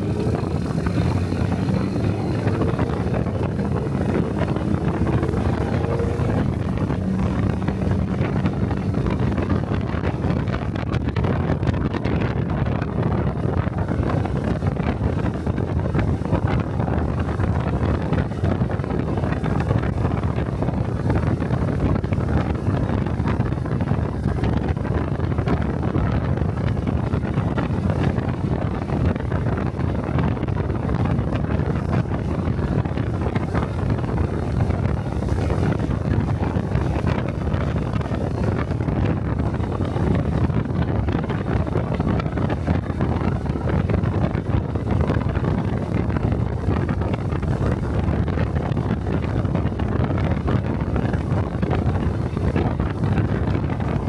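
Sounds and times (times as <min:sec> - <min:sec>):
motorcycle engine running: 0:00.0 - 0:48.3
wind buffeting microphone: 0:00.0 - 0:54.0.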